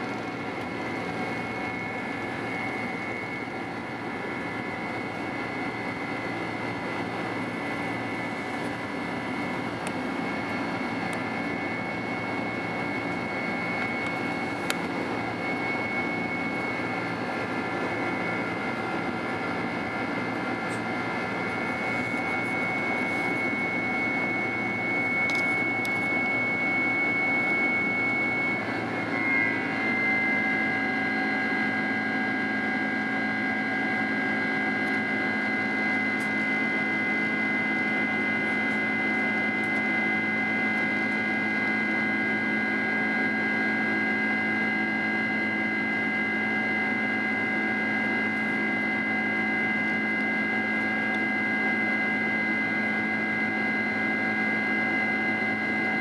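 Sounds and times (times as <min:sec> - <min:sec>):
jet engines droning and whining: 0:00.0 - 0:56.0.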